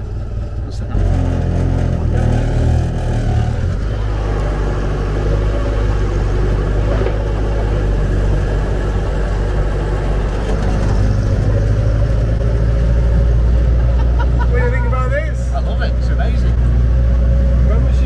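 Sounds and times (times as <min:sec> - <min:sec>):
car engine driving slowly: 0:00.0 - 0:18.0.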